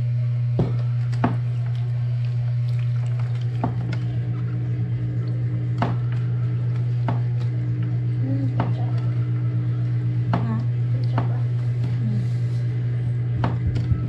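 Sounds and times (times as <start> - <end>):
loud steady low hum: 0.0 - 14.0.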